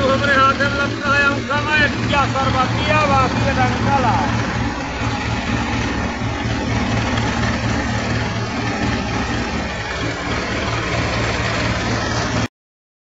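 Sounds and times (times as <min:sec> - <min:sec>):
rice huller machine drone: 0:00.0 - 0:12.5.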